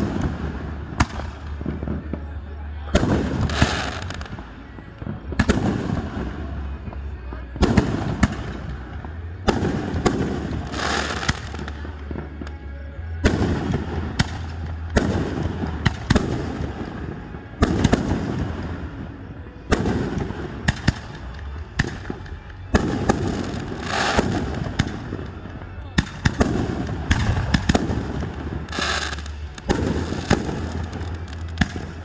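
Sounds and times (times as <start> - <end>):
fireworks booming: 0.0 - 2.3, 2.9 - 12.6, 13.2 - 32.0.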